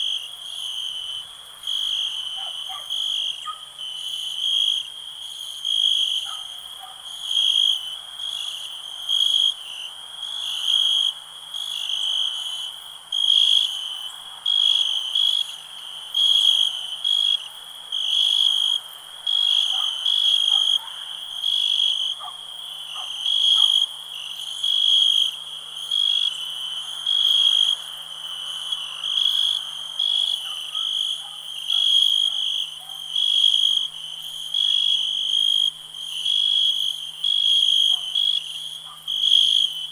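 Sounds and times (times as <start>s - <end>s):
background cricket trill: 0.0s - 39.9s
cricket chirping: 0.0s - 39.9s.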